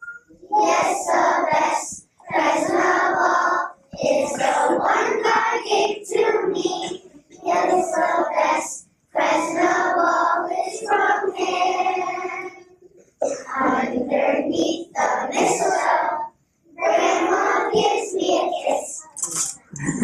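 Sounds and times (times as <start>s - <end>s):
young children singing: 0.0s - 20.0s.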